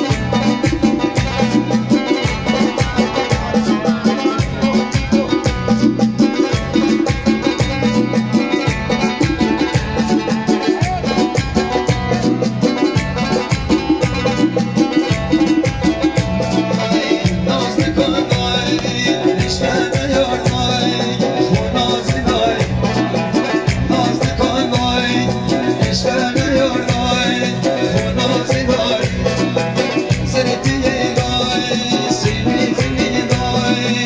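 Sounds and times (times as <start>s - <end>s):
man singing into a microphone: 0.0s - 13.4s, 14.5s - 34.0s
folk music on electronic keyboard: 0.0s - 34.0s.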